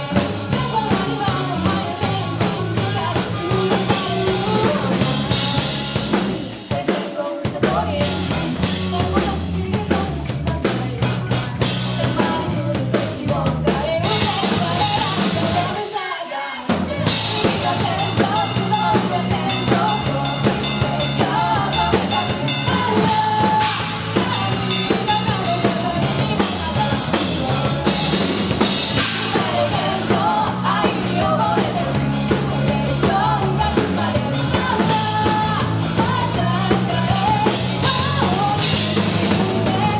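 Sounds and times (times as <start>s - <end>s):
bass drum and snare: 0.0s - 15.8s, 16.7s - 39.9s
loud rock band music: 0.0s - 39.9s.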